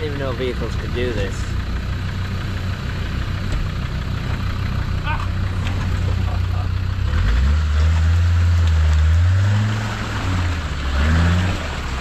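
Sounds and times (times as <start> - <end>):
diesel engine working under load: 0.0 - 12.0.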